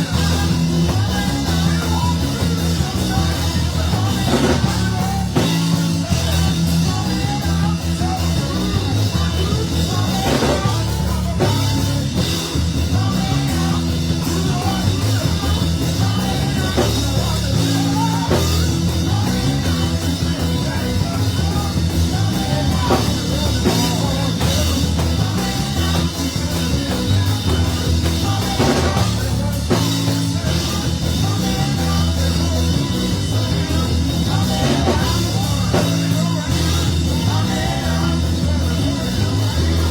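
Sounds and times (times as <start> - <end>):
band music: 0.0 - 39.9
steady bass line: 0.0 - 39.9.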